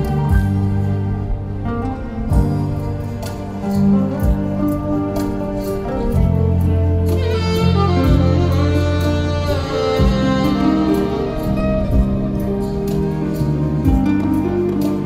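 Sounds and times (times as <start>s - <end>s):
backing track with bass and beat: 0.0s - 15.0s
saxophone melody: 0.0s - 15.0s.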